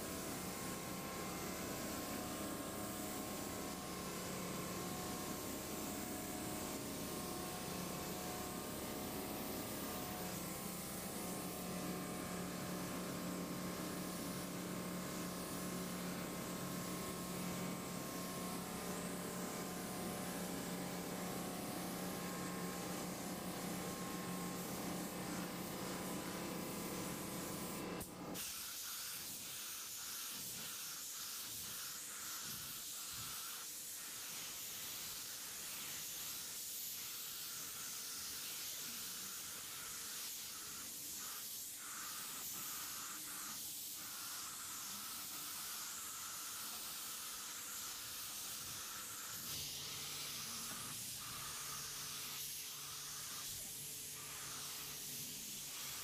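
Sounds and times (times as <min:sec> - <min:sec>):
paint spray gun hissing: 0:00.0 - 0:56.0.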